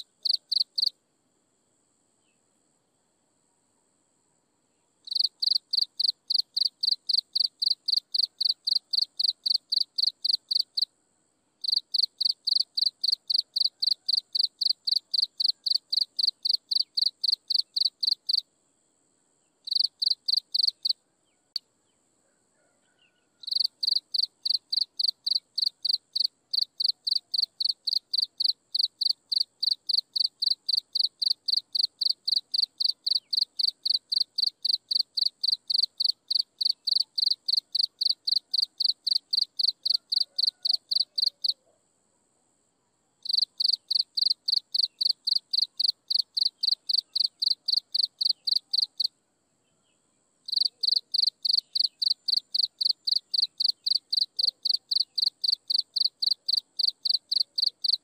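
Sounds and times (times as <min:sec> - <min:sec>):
insect chirping rapidly: 0:00.0 - 0:01.0, 0:05.0 - 0:18.8, 0:19.4 - 0:21.0, 0:23.4 - 0:41.7, 0:43.2 - 0:49.2, 0:50.4 - 0:58.0
faint high insect trill: 0:00.0 - 0:58.0.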